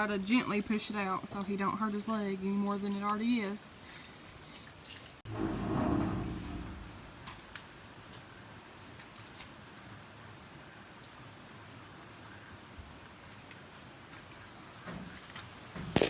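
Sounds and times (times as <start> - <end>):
light rain hiss: 0.0 - 16.0
light raindrop ticks: 0.0 - 16.0.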